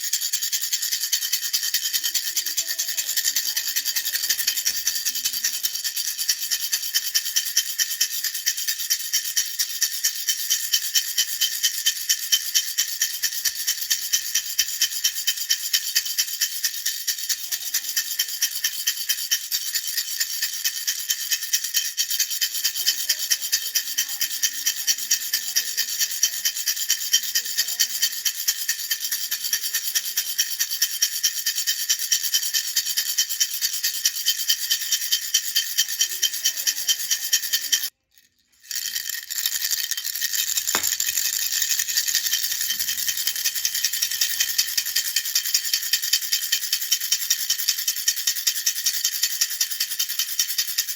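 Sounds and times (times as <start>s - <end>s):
baby rattle shaken: 0.0s - 50.9s.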